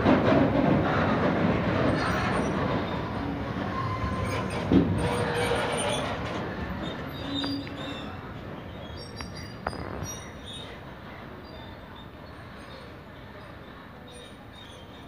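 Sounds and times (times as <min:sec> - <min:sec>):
train wagons rumbling and rattling: 0:00.0 - 0:15.0.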